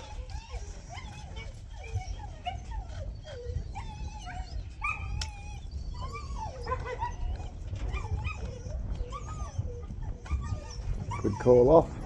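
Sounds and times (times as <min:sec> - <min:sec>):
dog whining and yipping: 0:00.0 - 0:12.0.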